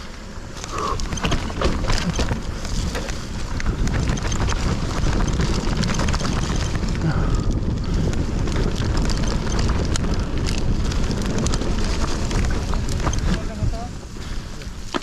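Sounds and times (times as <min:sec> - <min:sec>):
mountain bike rattling over rough trail: 0:00.0 - 0:15.0
wind on microphone: 0:00.0 - 0:15.0.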